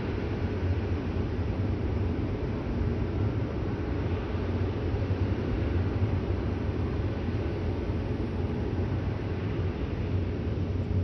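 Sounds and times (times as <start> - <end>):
jet engines idling low rumble: 0.0 - 11.0.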